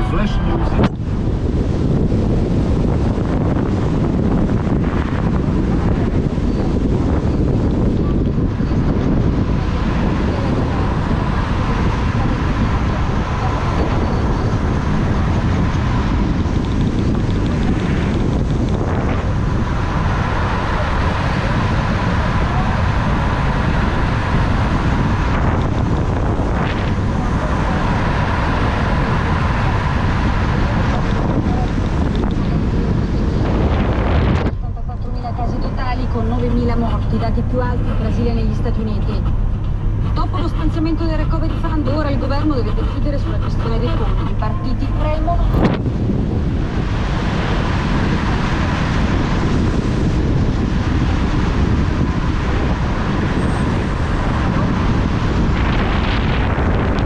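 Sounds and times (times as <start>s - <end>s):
car road noise rumble: 0.0s - 57.0s
wind buffeting microphone: 0.0s - 57.0s.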